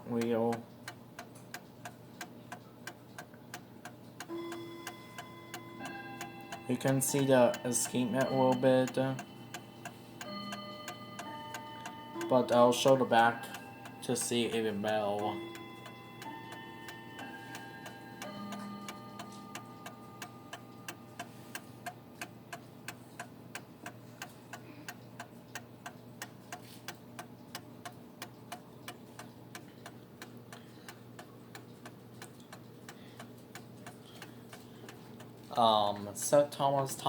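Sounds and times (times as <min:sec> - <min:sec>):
clock ticking: 0:00.0 - 0:37.0.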